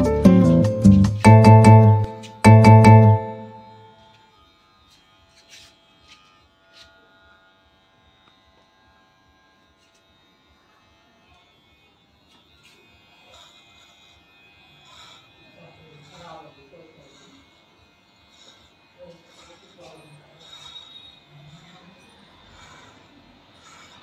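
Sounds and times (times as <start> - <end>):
electric hair clipper buzzing: 0.3 - 24.0.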